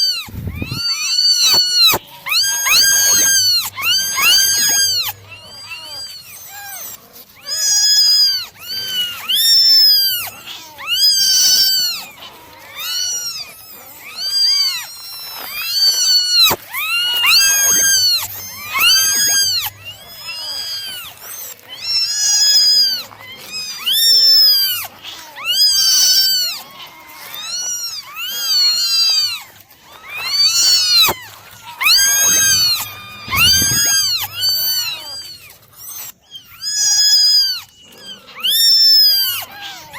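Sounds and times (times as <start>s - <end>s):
kittens meowing: 0.0s - 39.9s.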